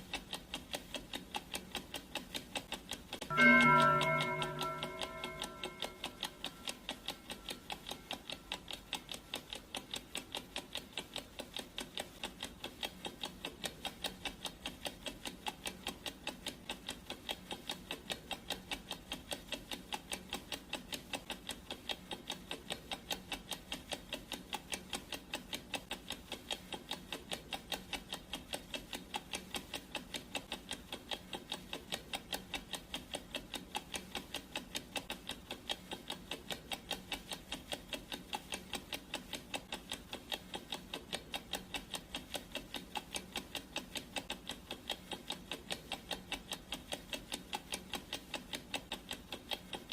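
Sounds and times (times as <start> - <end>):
clock ticking: 0.0 - 49.9.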